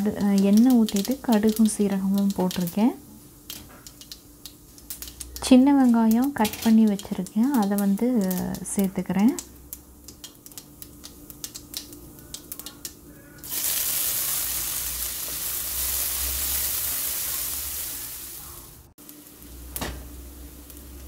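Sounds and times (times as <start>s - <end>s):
seeds crackling in hot oil: 0.0s - 21.0s
shallots sizzling in pan: 0.0s - 21.0s.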